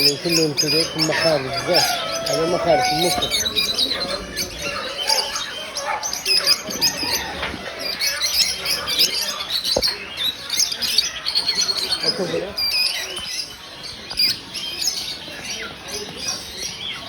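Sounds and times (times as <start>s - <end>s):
birds chirping and squawking: 0.0s - 17.0s.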